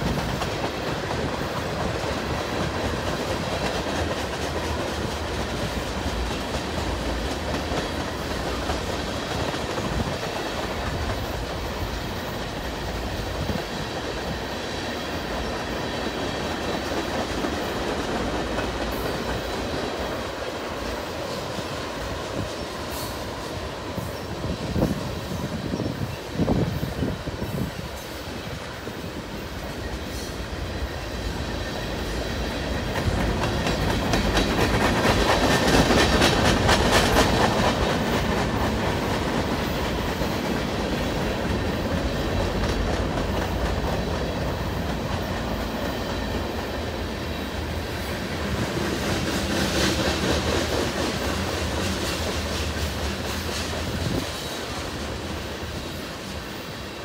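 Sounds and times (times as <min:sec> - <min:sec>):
train wheels rumbling over rails: 0:00.0 - 0:57.0.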